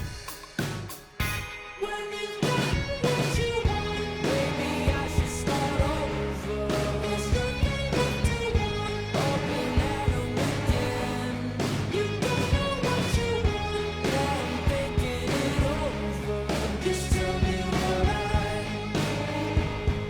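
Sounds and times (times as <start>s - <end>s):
pop-rock music with singing: 0.0s - 20.0s.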